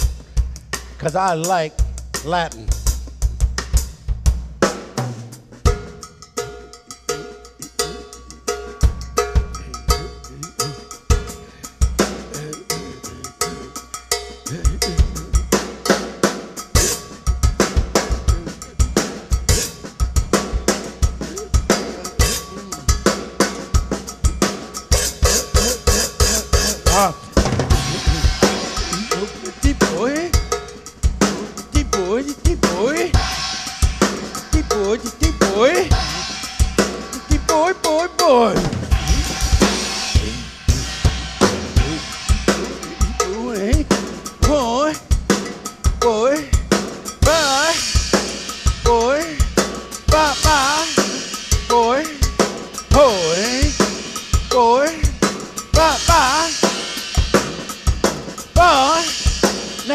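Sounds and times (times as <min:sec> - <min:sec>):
drum kit latin groove: 0:00.0 - 0:59.9
cowbell: 0:05.6 - 0:59.9.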